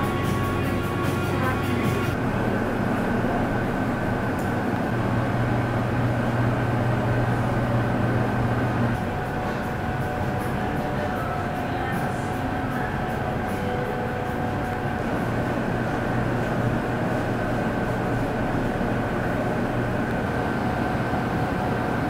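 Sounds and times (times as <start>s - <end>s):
droning hum: 0.0s - 22.0s
low mechanical rumble: 0.0s - 22.0s.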